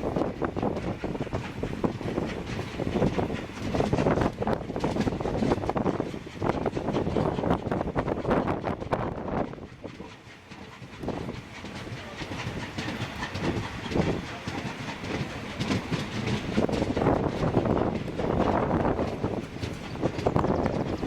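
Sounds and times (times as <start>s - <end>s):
freight train rolling on rails: 0.0s - 21.0s.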